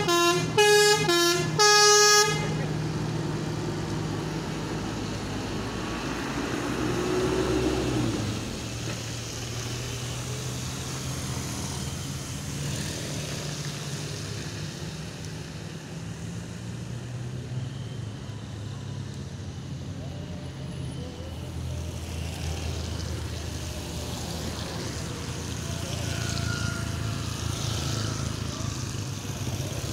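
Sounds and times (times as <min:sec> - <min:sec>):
vehicles passing: 0:00.0 - 0:29.9.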